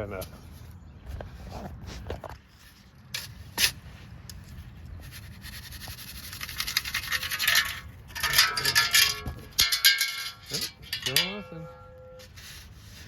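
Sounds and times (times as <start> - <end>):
digging tool scraping ground: 0.5 - 13.0.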